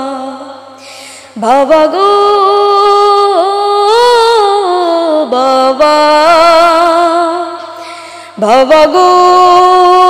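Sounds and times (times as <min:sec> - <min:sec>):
boy singing with vibrato: 0:00.0 - 0:10.0.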